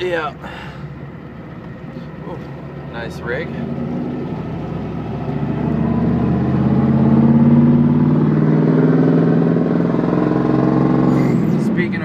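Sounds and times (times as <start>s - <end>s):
truck engine from inside cab: 0.0s - 12.0s.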